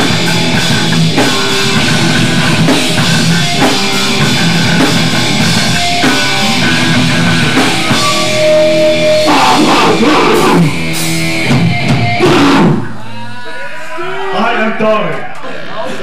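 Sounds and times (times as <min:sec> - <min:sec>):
punk band music: 0:00.0 - 0:13.9.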